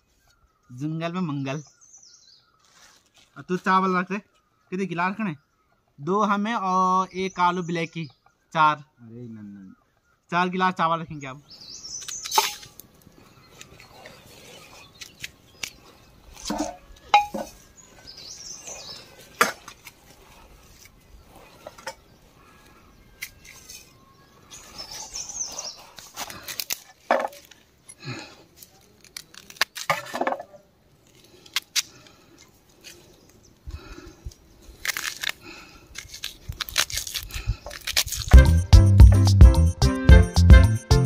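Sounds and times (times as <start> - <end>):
birds chirping: 0.0 - 29.8, 30.4 - 34.8.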